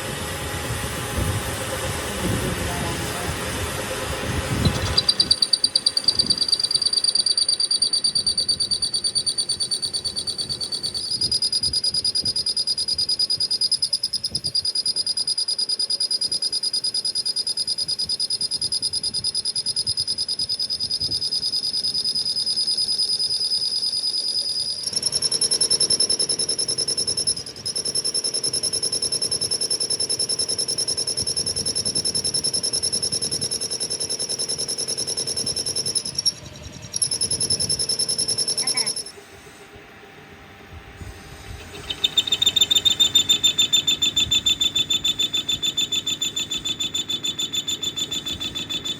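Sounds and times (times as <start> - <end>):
power tool whining: 0.0 - 48.9.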